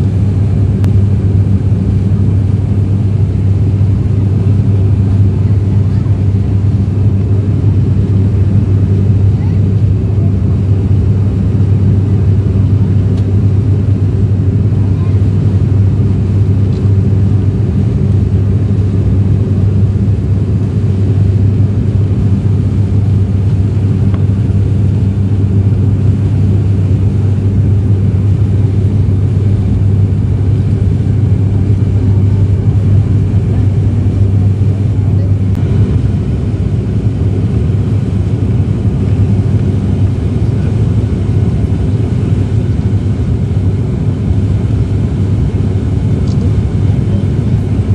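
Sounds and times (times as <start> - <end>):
propeller airliner cabin drone: 0.0 - 47.9.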